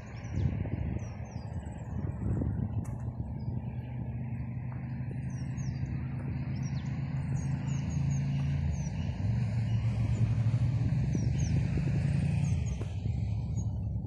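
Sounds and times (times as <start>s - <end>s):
motor engine humming: 0.0s - 14.0s
small birds chirping: 0.0s - 14.0s.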